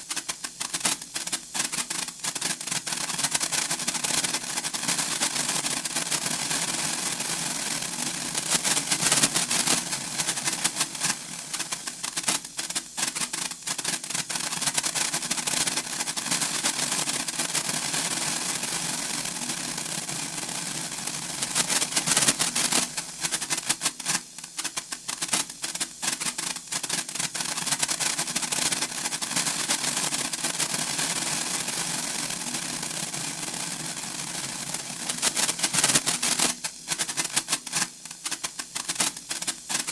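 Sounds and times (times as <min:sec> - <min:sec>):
sparkler crackling: 0:00.0 - 0:39.9.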